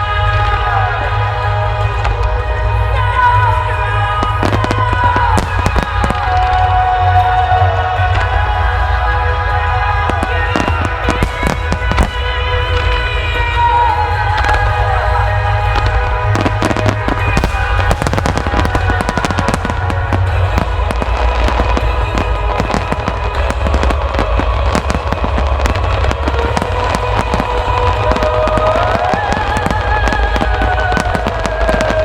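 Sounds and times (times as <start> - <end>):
fireworks bursting and crackling: 0.0 - 32.0
low booming rumble: 0.0 - 32.0
music playing: 0.0 - 32.0.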